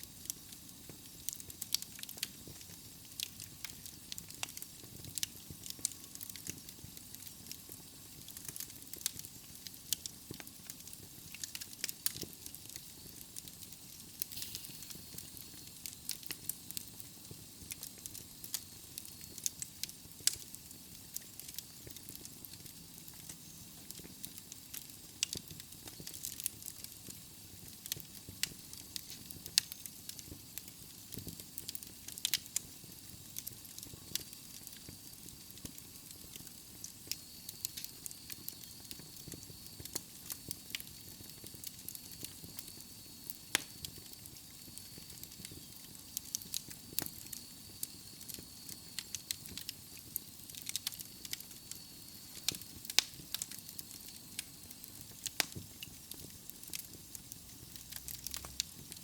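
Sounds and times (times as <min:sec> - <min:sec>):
fire hissing: 0:00.0 - 0:59.0
logs crackling and popping: 0:00.2 - 0:59.0.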